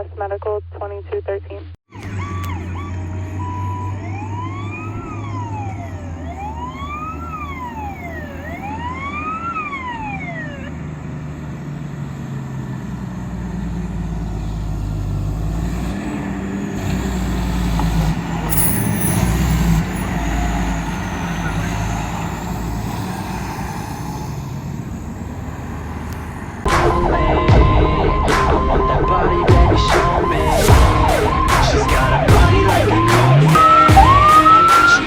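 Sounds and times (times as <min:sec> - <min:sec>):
diesel engine rumble: 0:01.6 - 0:35.0
fire truck siren wailing: 0:01.9 - 0:35.0.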